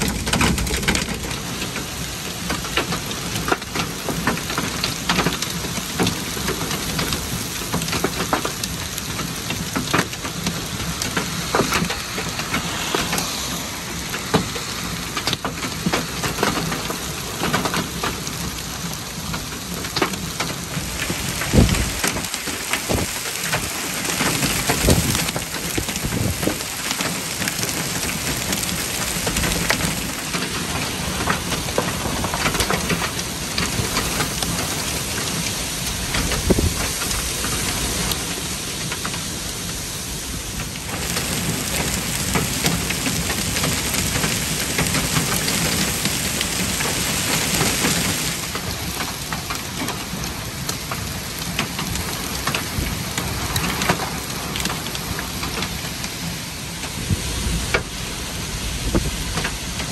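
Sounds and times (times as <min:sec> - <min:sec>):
hailstones striking: 0:00.0 - 0:13.3, 0:14.1 - 0:57.0
heavy rain on pavement: 0:00.0 - 0:59.9.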